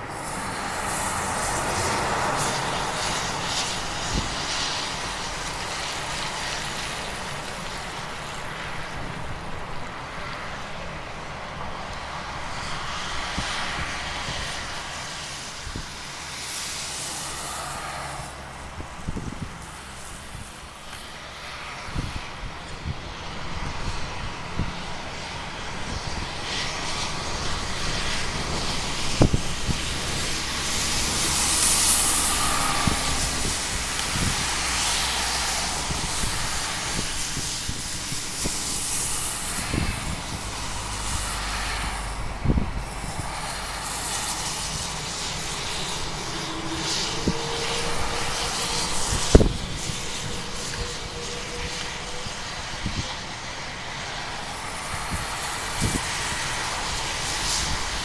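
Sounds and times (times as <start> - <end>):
jet engines hissing and whining: 0.0 - 58.0.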